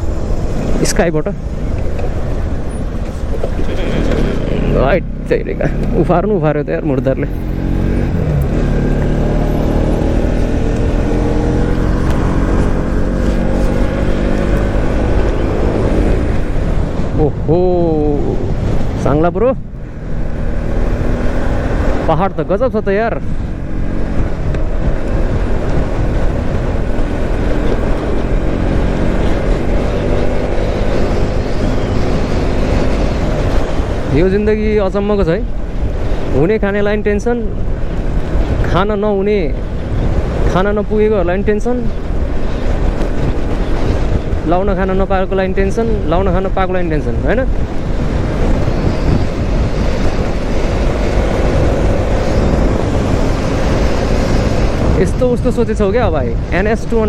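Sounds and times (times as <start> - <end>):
wind rush on microphone: 0.0 - 57.0.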